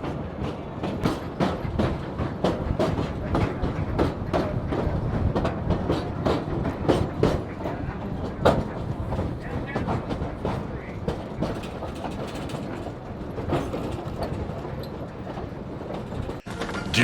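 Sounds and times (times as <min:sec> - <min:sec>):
moving train rumble: 0:00.0 - 0:17.0
train wheels clacking on rail joints: 0:00.0 - 0:17.0.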